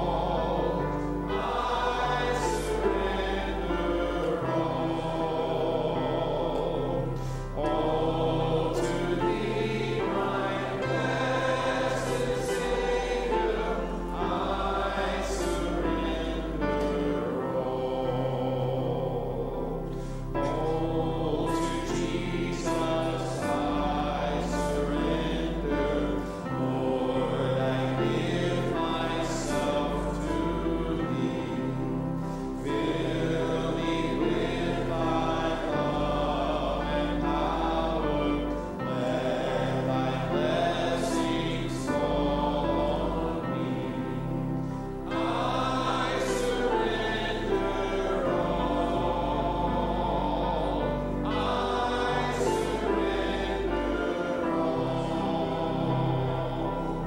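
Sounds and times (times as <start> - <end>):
voices singing a hymn: 0.0 - 57.0.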